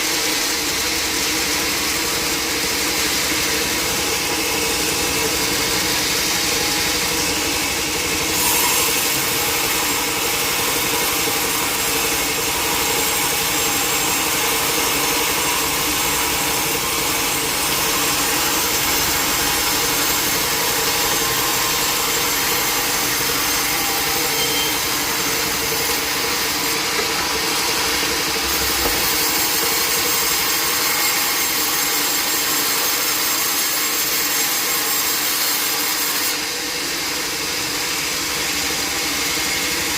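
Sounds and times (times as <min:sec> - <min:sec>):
saw cutting through a log: 0:00.0 - 0:39.9.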